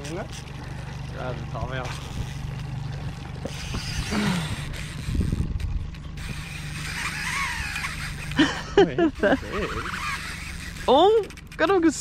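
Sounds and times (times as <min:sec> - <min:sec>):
idling boat motor hum: 0:00.0 - 0:12.0
fishing reel ratcheting whir: 0:01.7 - 0:12.0.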